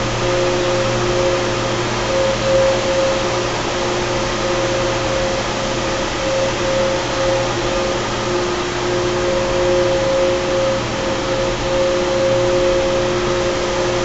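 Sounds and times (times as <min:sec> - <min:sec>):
chiller compressors running: 0:00.0 - 0:14.0.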